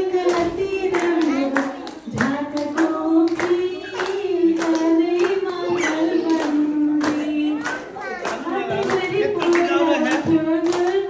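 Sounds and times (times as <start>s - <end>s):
group clapping along: 0.0s - 11.0s
woman singing into microphone: 0.0s - 11.0s.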